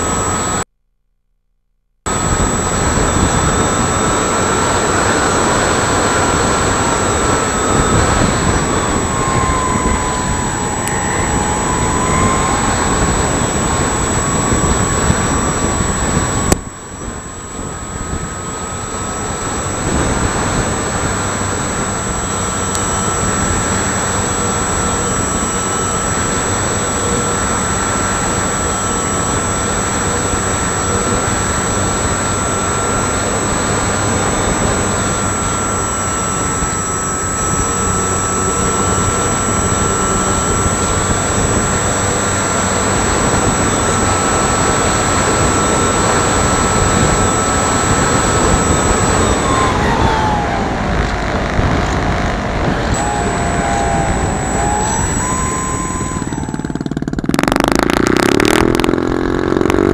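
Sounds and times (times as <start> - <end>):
model plane engine whining: 0.0 - 0.7, 2.1 - 59.9.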